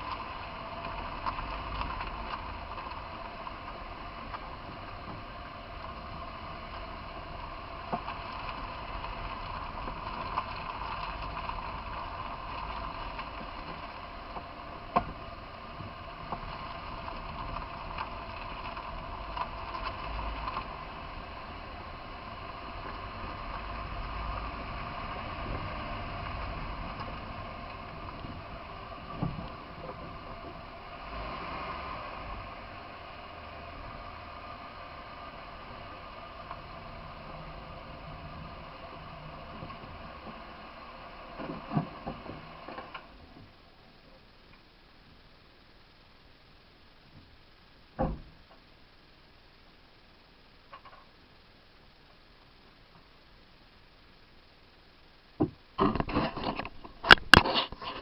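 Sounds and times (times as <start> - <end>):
steady running noise: 0.0 - 58.0.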